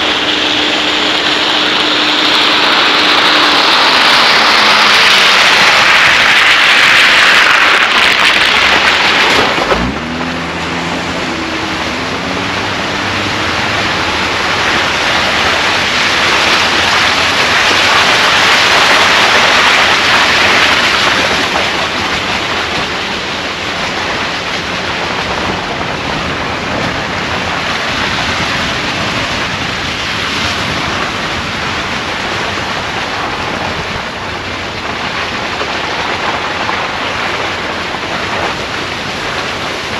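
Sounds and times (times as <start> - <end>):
tyre and wind noise: 0.0 - 39.9.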